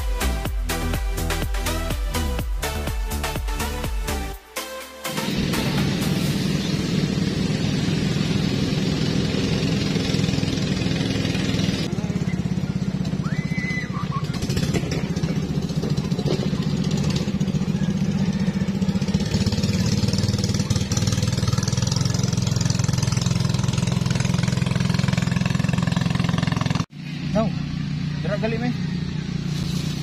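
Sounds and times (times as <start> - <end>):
small engine running: 5.1 - 30.0.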